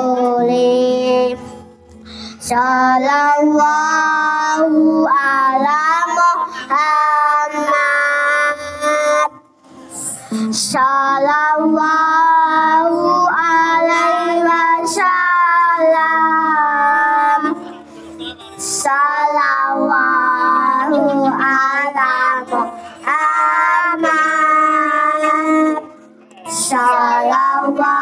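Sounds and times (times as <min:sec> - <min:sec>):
child singing devotional song: 0:00.0 - 0:01.6, 0:02.2 - 0:09.4, 0:10.4 - 0:17.8, 0:18.6 - 0:28.0.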